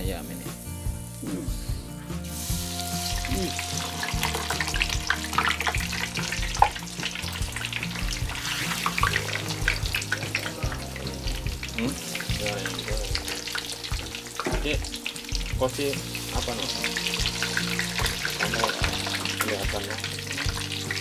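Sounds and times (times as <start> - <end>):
deep-frying crackling sizzle: 0.0 - 21.0.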